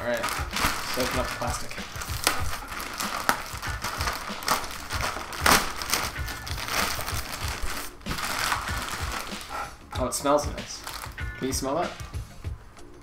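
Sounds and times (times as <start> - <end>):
plastic wrapping crinkling: 0.0 - 9.8, 10.5 - 11.3.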